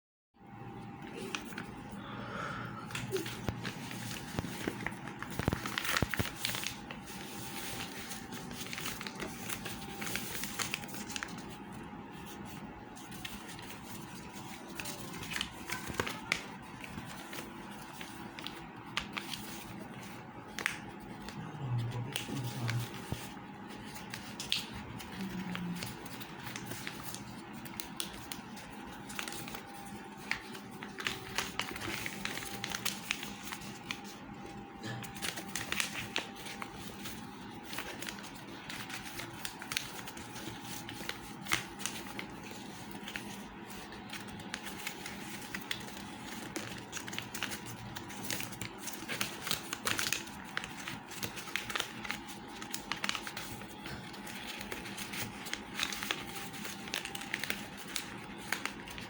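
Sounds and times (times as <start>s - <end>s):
material crinkling and rustling: 2.9s - 59.0s.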